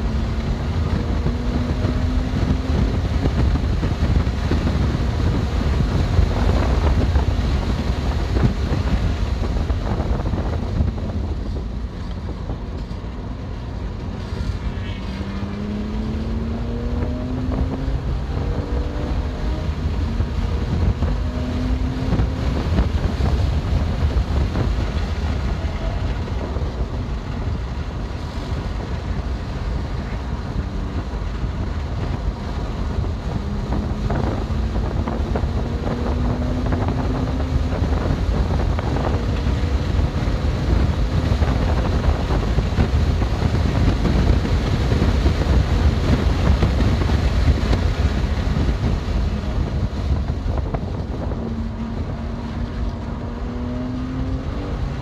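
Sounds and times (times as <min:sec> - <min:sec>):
car engine accelerating: 0:00.0 - 0:55.0
road rumble: 0:00.0 - 0:55.0
wind noise: 0:00.0 - 0:55.0.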